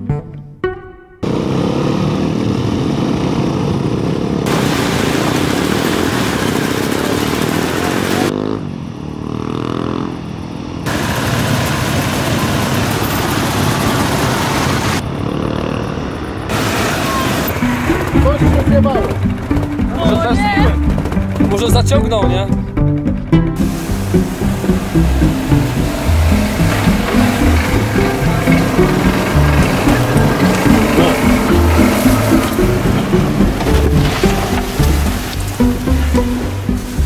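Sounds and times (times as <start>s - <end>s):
motorcycle engines revving: 1.2s - 37.0s.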